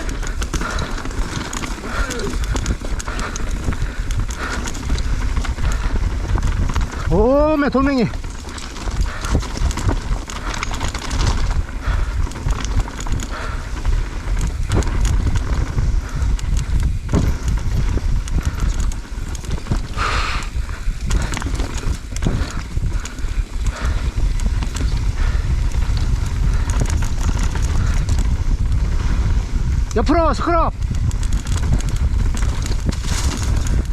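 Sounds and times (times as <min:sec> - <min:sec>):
bike rattling over stones: 0:00.0 - 0:33.9
wind rumble on microphone: 0:00.0 - 0:33.9.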